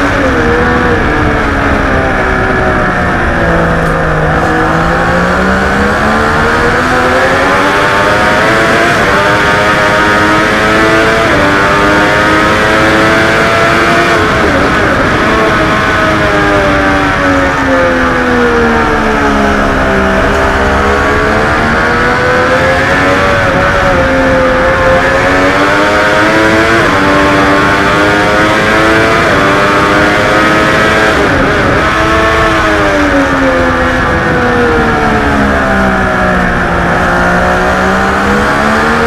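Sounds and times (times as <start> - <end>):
motorcycle engine at racing speed: 0.0 - 39.0.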